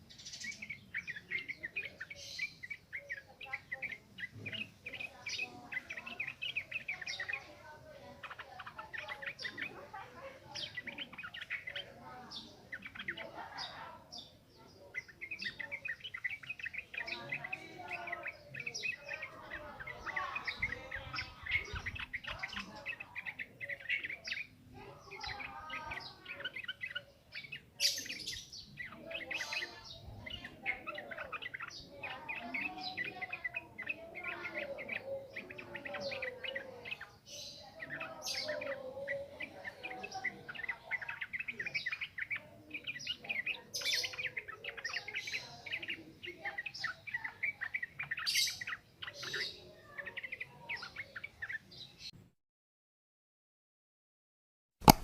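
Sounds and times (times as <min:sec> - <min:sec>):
bird singing chattering notes: 0:00.0 - 0:52.1.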